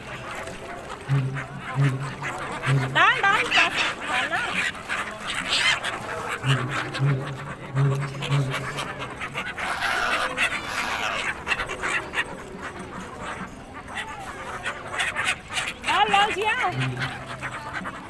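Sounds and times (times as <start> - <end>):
gulls calling: 0.0 - 18.0
people chattering: 0.0 - 18.0.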